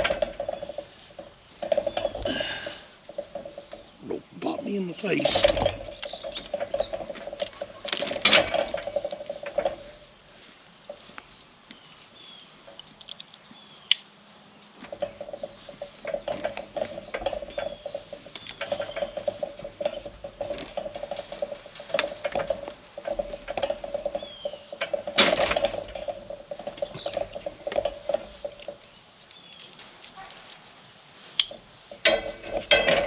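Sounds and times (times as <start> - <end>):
animal rattling in metal chute: 0.0 - 10.3, 14.8 - 29.6, 31.5 - 33.0
birds chirping: 0.0 - 31.9.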